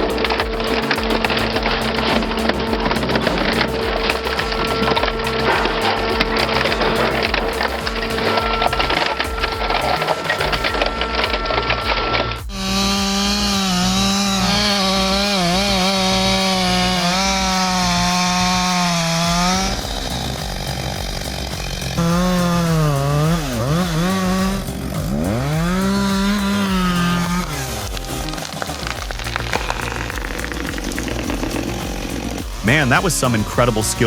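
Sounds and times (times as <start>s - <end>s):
chainsaw running at high revs: 0.0s - 10.9s, 12.4s - 34.0s.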